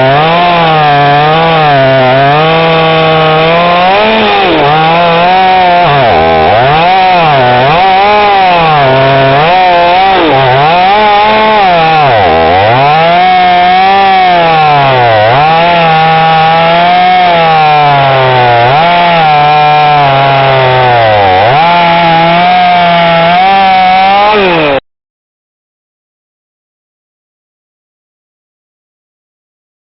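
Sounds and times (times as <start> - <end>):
chainsaw running at high revs: 0.0 - 24.8.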